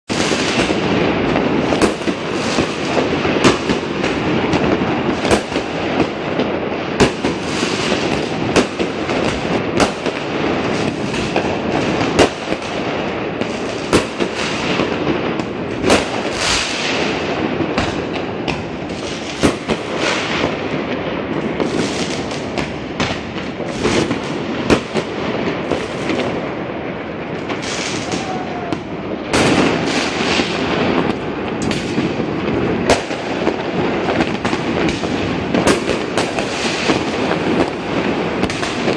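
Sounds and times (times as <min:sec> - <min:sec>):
din of fireworks explosions: 0:00.1 - 0:38.9
firecracker bangs: 0:00.1 - 0:38.9.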